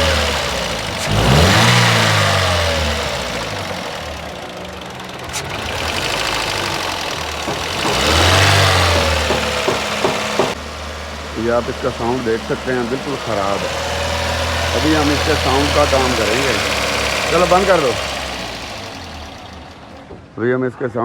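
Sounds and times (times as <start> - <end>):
car engine revving: 0.0 - 20.2.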